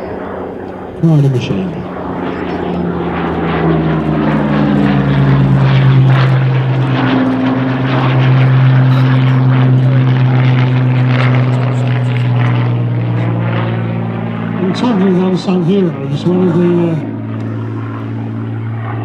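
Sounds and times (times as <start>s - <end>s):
propeller aircraft engine droning: 0.0s - 19.0s.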